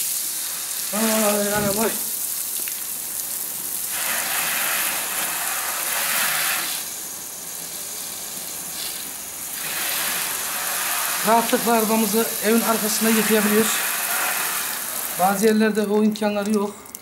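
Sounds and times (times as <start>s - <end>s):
hose spraying water on car: 0.0s - 16.6s.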